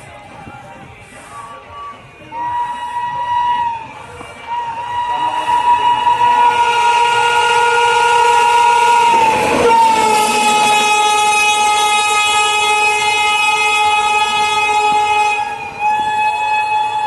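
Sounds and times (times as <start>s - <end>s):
train wheels passing: 0.0s - 17.0s
locomotive horn sounding: 1.1s - 17.0s.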